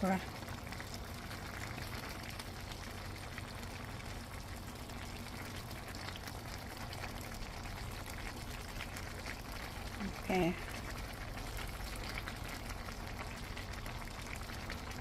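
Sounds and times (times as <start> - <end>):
faint crackles: 0.0 - 15.0
food bubbling and hissing: 0.0 - 15.0.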